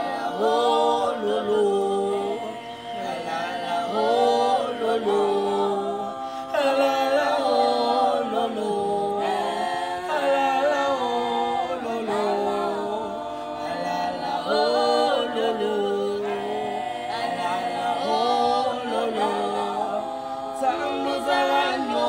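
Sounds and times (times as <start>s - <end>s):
children singing a cappella: 0.0s - 22.0s.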